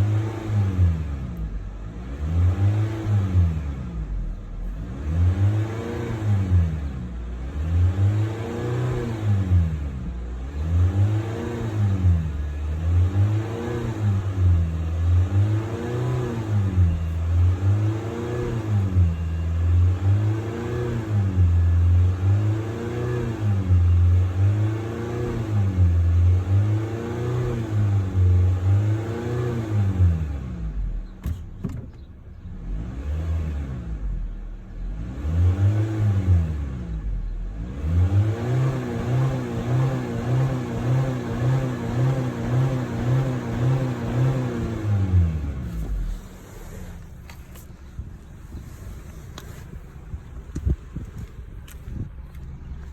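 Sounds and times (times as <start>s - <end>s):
car engine revving: 0.0s - 52.9s.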